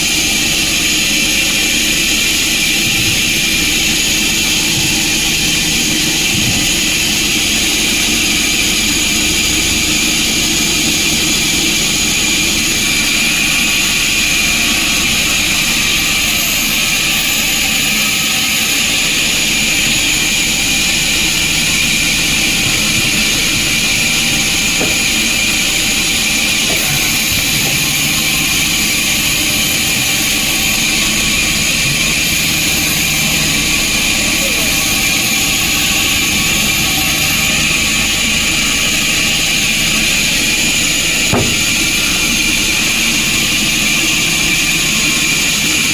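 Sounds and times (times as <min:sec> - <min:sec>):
sawmill machinery hissing: 0:00.0 - 0:45.9.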